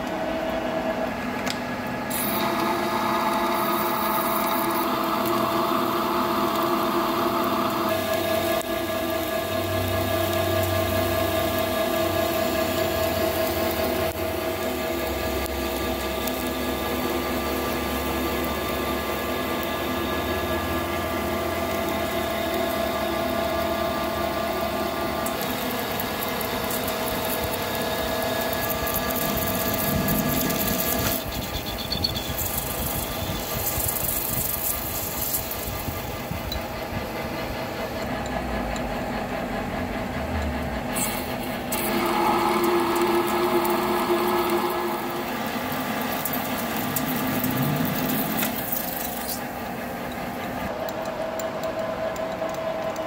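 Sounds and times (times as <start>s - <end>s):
lathe machine hum: 0.0s - 53.0s
metal cutting noise: 2.1s - 37.6s, 40.4s - 52.3s.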